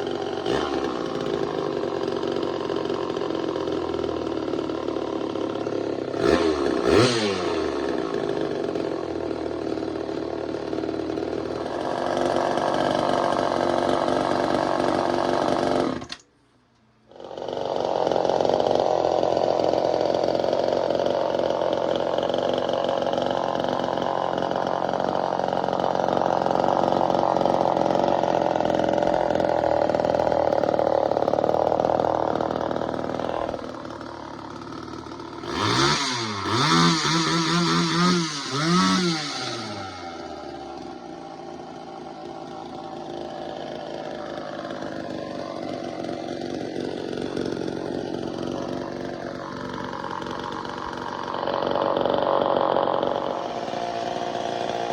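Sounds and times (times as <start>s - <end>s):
chainsaw running: 0.0s - 16.3s, 17.0s - 54.9s.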